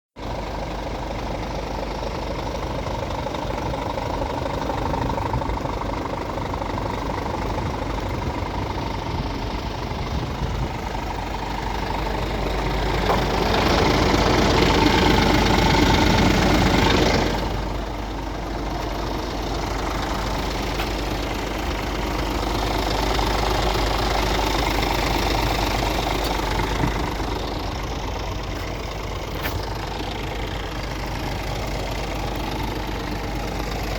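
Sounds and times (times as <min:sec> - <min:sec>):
diesel truck engine idling: 0:00.2 - 0:33.9.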